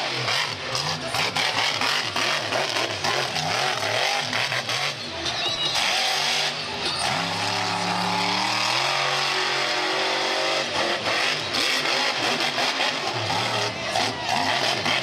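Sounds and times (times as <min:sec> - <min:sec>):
monster truck engine rumbling: 0:00.0 - 0:15.0.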